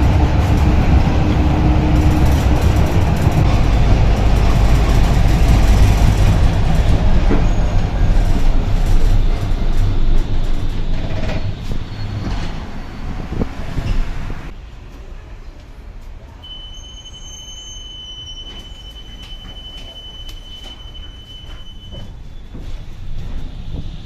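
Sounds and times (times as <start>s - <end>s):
tram wheels rumbling on track: 0.0s - 16.4s, 18.3s - 24.0s.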